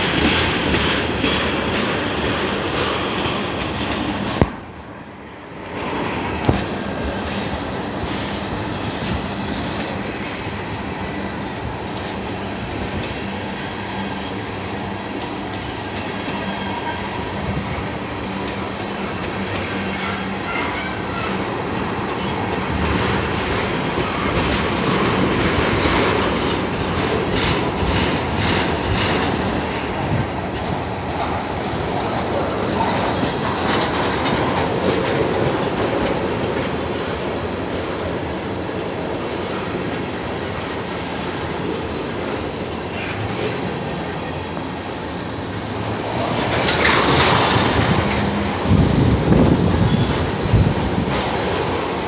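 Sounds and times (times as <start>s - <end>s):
train wheels clicking over rail joints: 0.0s - 4.8s, 5.6s - 52.0s
freight train rumbling: 0.0s - 52.0s.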